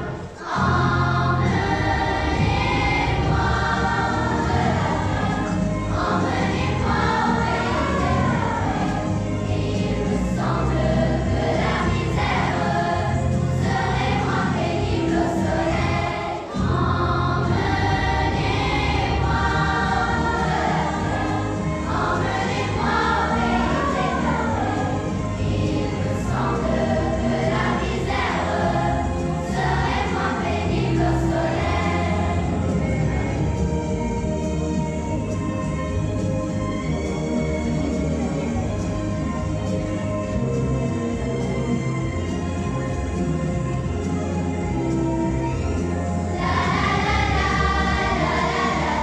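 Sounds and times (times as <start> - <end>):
children's choir singing: 0.0 - 49.0
instrumental accompaniment with bass: 0.0 - 49.0.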